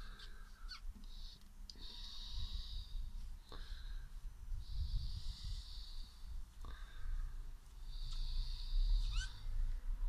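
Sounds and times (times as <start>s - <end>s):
person breathing slowly: 0.0s - 10.0s.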